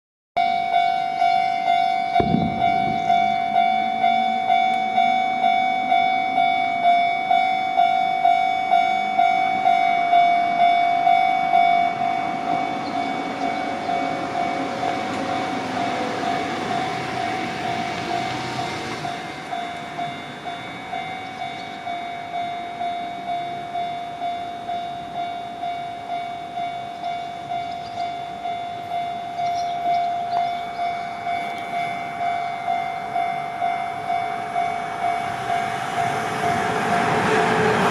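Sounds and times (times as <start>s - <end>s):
level-crossing electronic bell: 0.4s - 37.3s
train passing: 0.4s - 37.9s.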